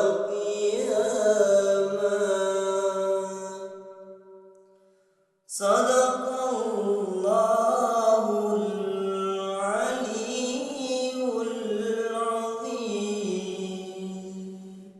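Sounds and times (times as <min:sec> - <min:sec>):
man chanting melodically: 0:00.0 - 0:03.8, 0:05.5 - 0:14.9.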